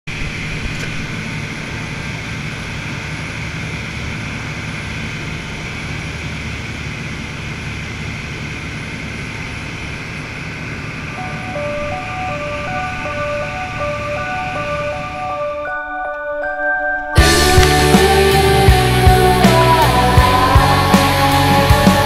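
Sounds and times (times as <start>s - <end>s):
boat engine running: 0.1s - 22.0s.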